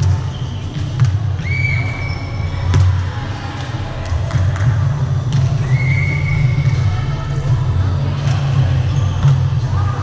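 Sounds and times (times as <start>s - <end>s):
low hum of large hall: 0.0s - 10.0s.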